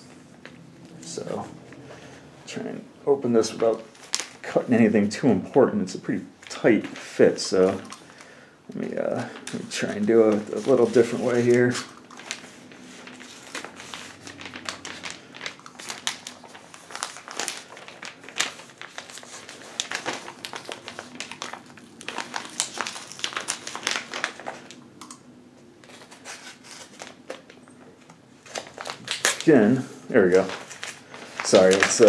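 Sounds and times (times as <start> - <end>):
paper crinkling and rustling: 3.4 - 32.0.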